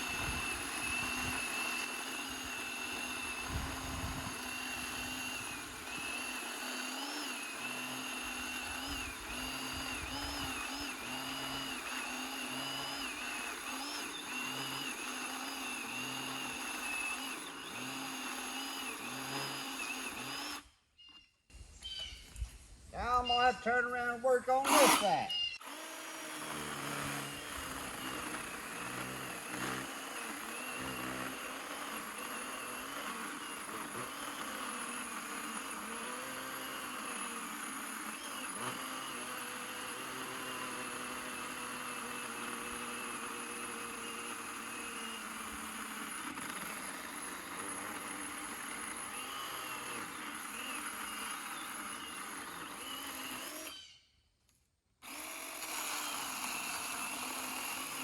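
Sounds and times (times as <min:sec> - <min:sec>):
battery chainsaw cutting wood: 0:00.0 - 0:20.8, 0:23.1 - 0:54.0, 0:55.0 - 0:58.0.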